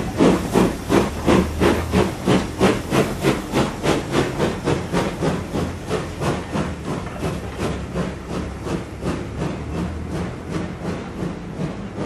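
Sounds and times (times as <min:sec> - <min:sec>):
steam locomotive exhaust chuffs: 0:00.0 - 0:12.0.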